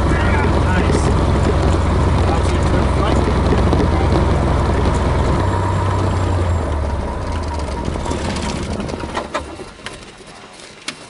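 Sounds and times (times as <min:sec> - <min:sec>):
airplane engine and propeller hum: 0:00.0 - 0:11.0.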